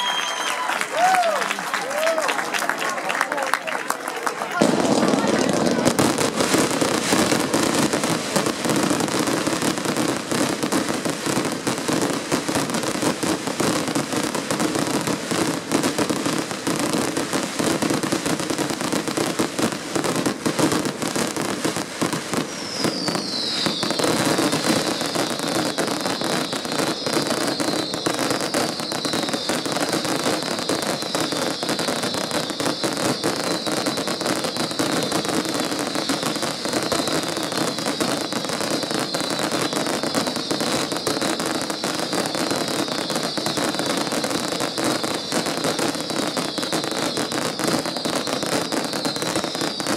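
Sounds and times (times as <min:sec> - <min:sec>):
high firework whistling: 0:00.0 - 0:01.3, 0:04.6 - 0:49.9
fireworks crackling and banging: 0:00.0 - 0:49.9.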